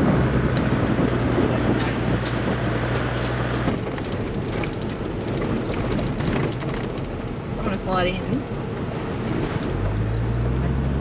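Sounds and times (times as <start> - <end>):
car engine drone: 0.0 - 11.0
tyre and road noise: 0.0 - 11.0.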